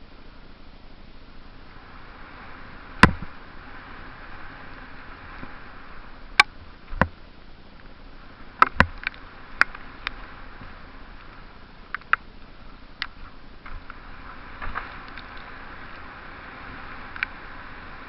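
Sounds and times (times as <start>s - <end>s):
bike tyres rolling hiss: 0.0s - 18.0s.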